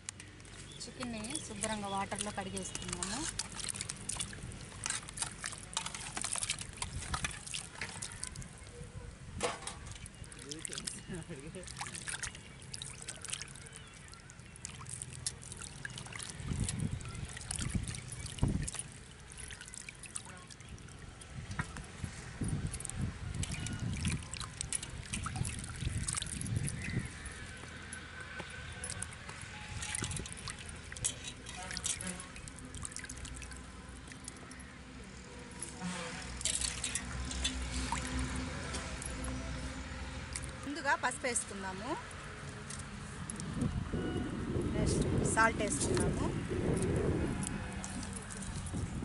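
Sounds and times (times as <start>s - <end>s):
water sloshing in a steel pot: 0.1s - 8.8s, 9.4s - 43.8s, 44.8s - 49.0s.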